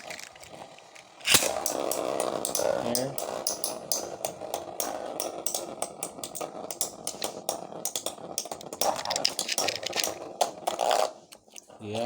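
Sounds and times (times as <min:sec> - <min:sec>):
spinning tops whirring: 0:00.0 - 0:11.4
spinning tops clicking together: 0:01.2 - 0:11.6.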